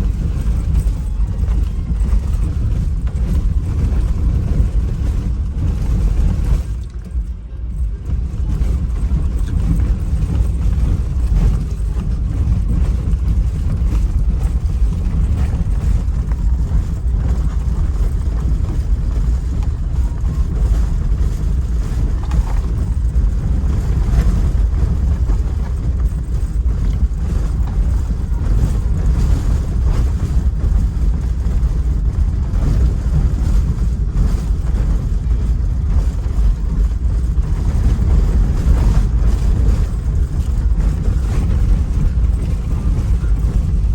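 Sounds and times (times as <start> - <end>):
boat motor rumbling: 0.0 - 43.9.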